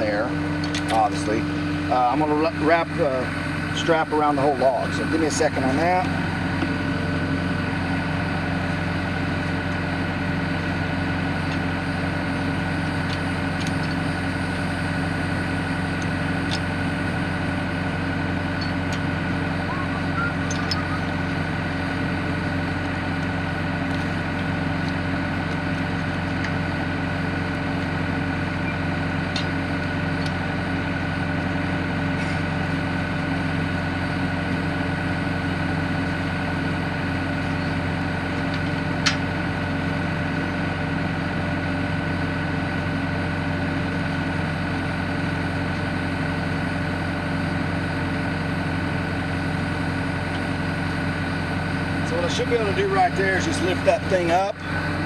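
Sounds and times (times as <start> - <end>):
backhoe engine idling: 0.0 - 55.0.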